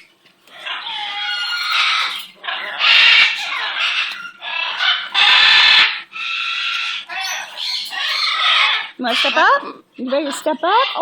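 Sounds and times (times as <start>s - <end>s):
parrot calling: 0.0s - 11.0s.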